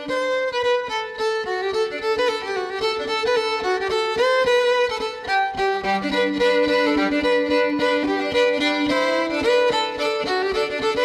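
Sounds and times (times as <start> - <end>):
fiddle playing quick notes: 0.0 - 11.0.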